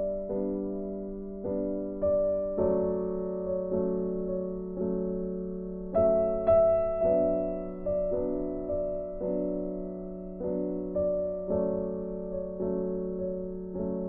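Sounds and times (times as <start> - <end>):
soft piano notes: 0.0 - 14.0.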